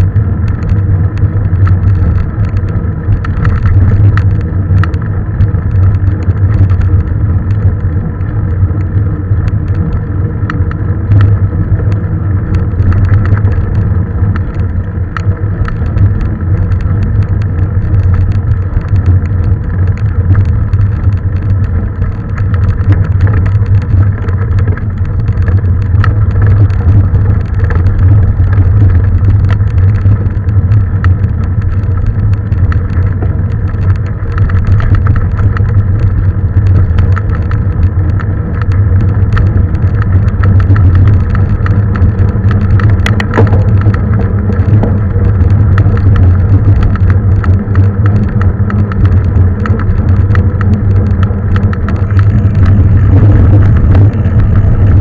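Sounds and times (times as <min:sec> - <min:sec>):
bike clicks and rattles: 0:00.0 - 0:55.0
bike rolling rumble: 0:00.0 - 0:55.0.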